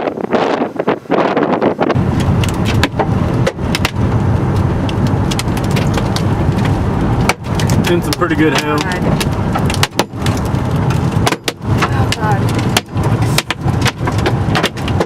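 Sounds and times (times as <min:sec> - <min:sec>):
car driving rumble: 0:00.1 - 0:15.0
hailstones striking a car: 0:01.9 - 0:15.0.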